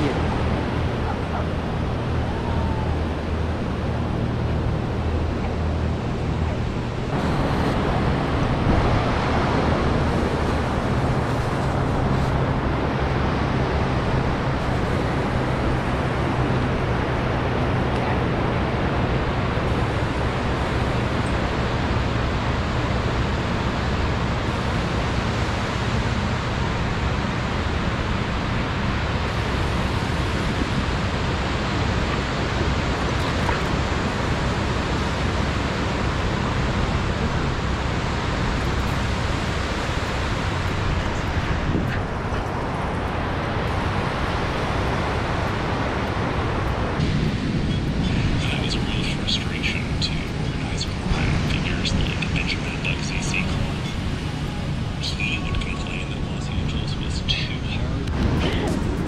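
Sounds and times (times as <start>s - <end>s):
ocean surf: 0.0s - 59.0s
wind: 0.0s - 59.0s.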